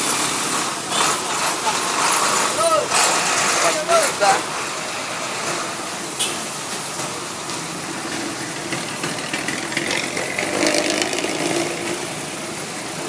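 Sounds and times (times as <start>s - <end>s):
bus diesel engine idling: 0.0s - 13.0s
road noise: 0.0s - 13.0s.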